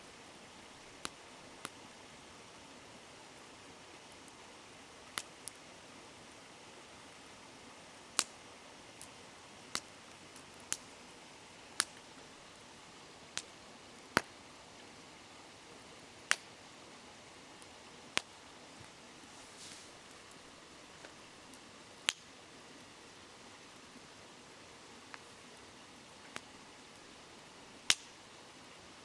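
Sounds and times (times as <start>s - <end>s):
campfire wood crackling: 0.0s - 29.0s
flowing river hiss: 0.0s - 29.0s.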